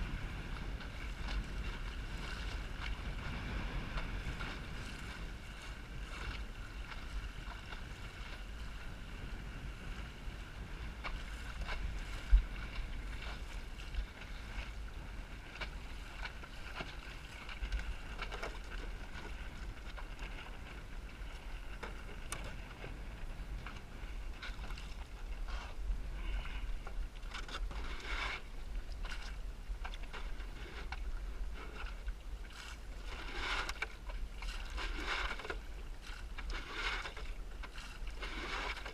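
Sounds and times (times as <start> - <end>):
water washing along hull: 0.0 - 38.9
wind buffeting microphone: 0.0 - 38.9.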